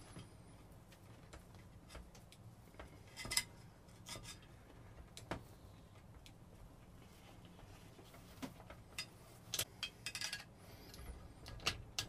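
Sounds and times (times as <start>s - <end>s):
faint clicks and scrapes of hands: 0.0s - 12.0s.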